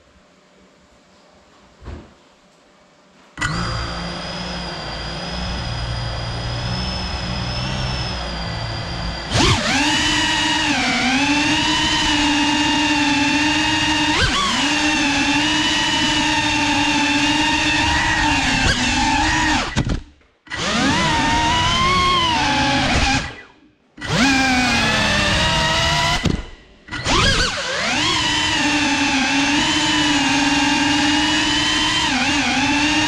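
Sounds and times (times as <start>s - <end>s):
drone motors whining: 3.4s - 33.0s.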